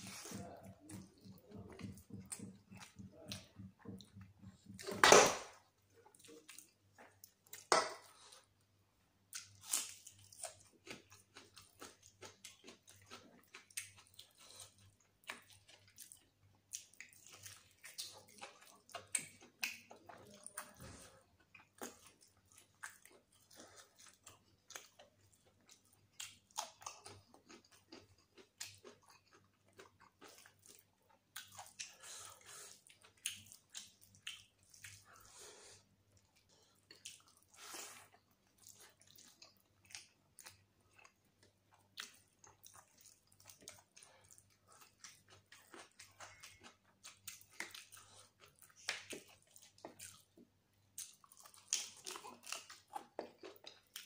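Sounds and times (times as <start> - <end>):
chewing with wet smacks: 0.0 - 5.0, 5.6 - 8.7, 9.3 - 54.0.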